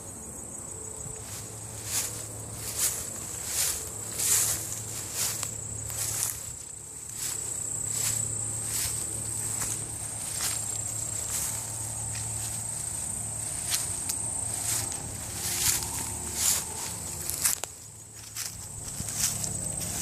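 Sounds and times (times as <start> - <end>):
insects singing high-pitched tone: 0.0 - 20.0
footsteps crunching through dry leaves: 1.0 - 20.0.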